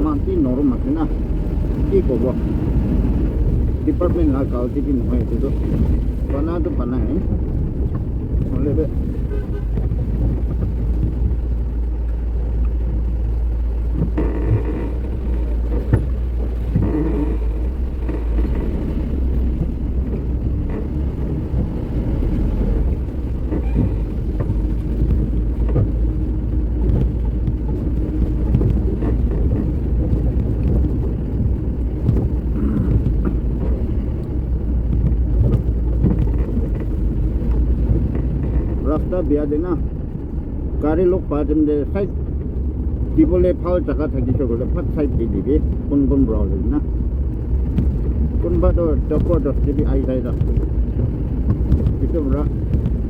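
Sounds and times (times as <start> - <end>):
vehicle engine and road rumble: 0.0 - 53.0.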